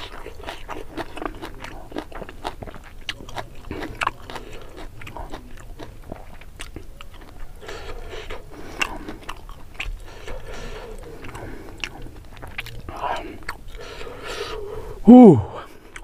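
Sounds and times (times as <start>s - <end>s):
wet chewing and mouth clicks: 0.0s - 16.0s.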